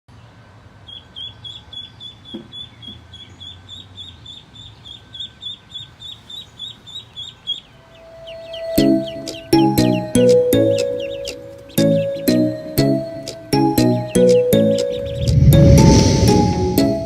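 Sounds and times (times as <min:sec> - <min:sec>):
bird chirping: 0:00.8 - 0:15.5.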